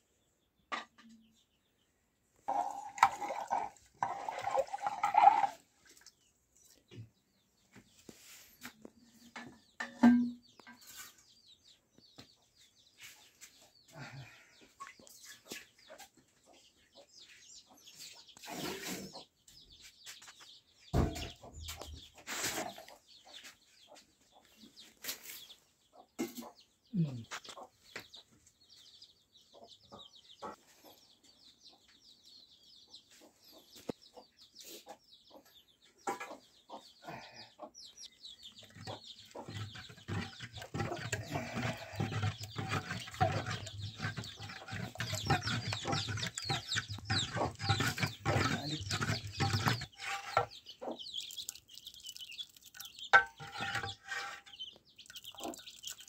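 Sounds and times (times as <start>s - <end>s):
chickens clucking: 2.4s - 56.0s.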